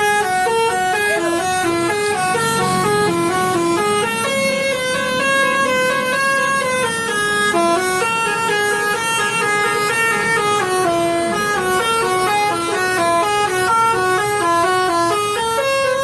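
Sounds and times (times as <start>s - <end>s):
multi-trumpet bus horn tune: 0.0s - 16.0s.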